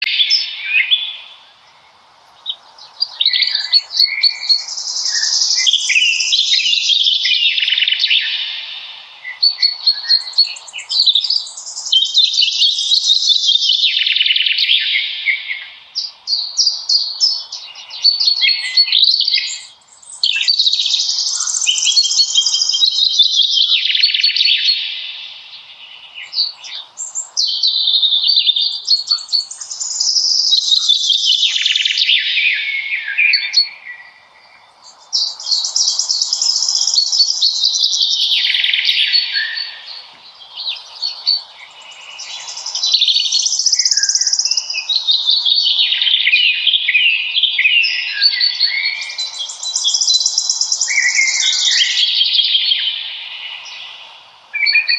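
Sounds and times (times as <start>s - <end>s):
songbirds singing trills: 0.0s - 54.9s
faint steady hiss: 0.1s - 54.9s.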